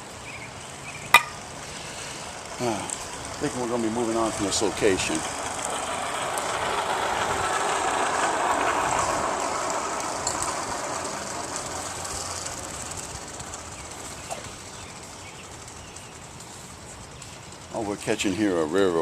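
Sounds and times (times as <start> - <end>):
train passing: 0.0 - 19.0.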